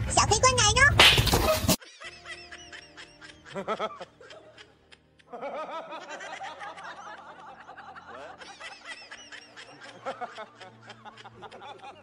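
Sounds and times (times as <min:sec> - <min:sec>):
light music: 0:00.1 - 0:12.0.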